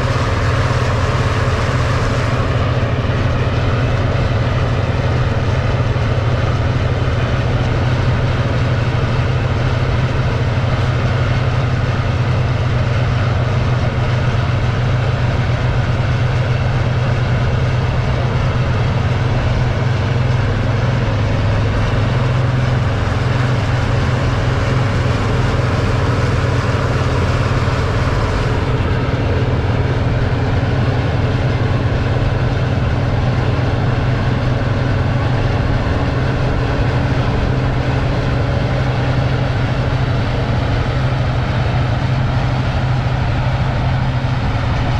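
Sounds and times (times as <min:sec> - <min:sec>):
farm machine engine droning: 0:00.0 - 0:44.9.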